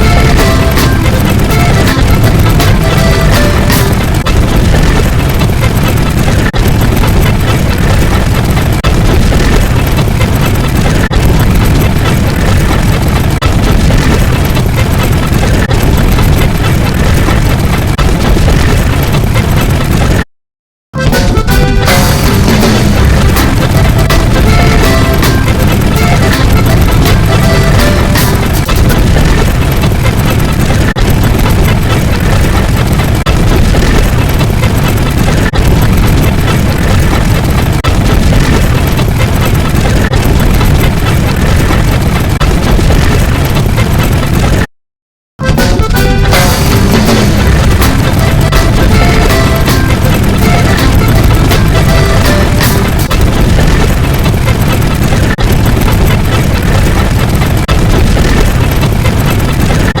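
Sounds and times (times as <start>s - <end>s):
loud dense rumbling: 0.0s - 20.3s, 20.9s - 44.7s, 45.4s - 60.0s.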